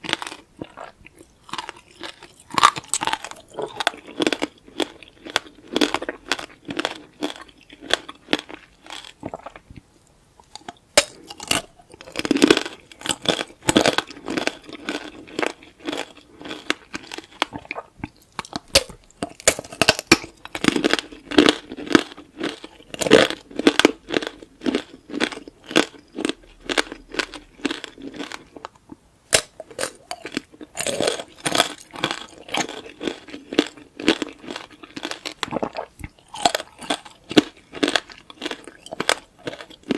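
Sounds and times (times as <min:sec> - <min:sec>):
crunching and chewing candy: 0:00.0 - 0:39.9.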